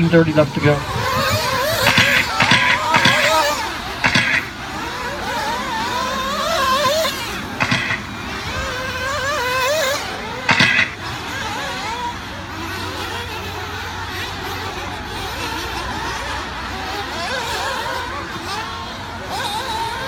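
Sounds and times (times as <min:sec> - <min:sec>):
rc buggy engines screaming: 0:00.0 - 0:20.0.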